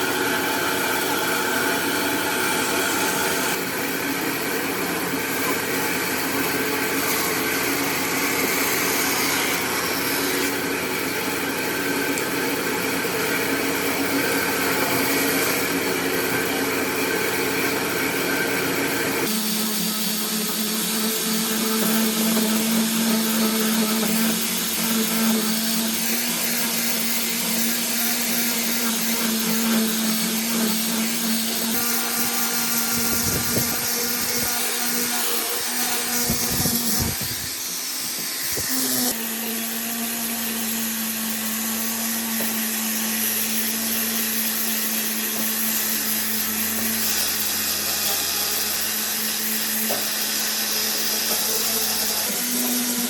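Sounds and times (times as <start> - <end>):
electric power tools running: 0.0 - 53.0.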